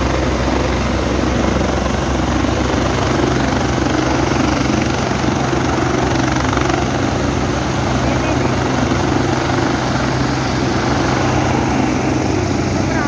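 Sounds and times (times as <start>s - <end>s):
helicopter engine and rotors: 0.0s - 13.0s.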